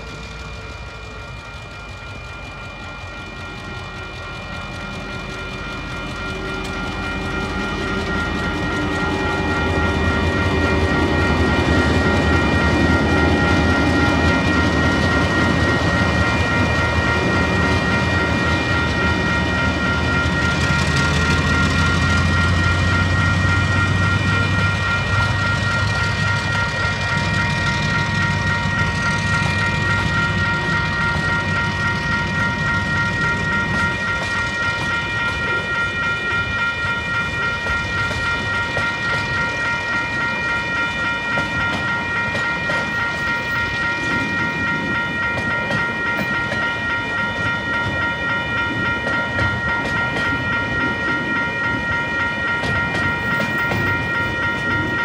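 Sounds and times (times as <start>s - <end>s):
locomotive engine rumble: 0.0s - 55.0s
train wagons rolling: 0.0s - 55.0s
level crossing bells ringing: 2.0s - 55.0s.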